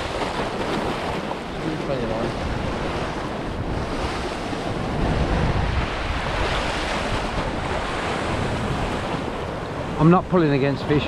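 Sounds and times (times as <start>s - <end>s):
sea waves washing against rocks: 0.0s - 11.0s
wind buffeting microphone: 0.0s - 11.0s.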